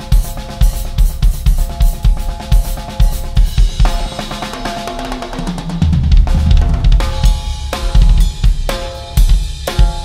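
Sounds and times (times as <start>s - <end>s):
acoustic drum kit playing: 0.0s - 10.0s.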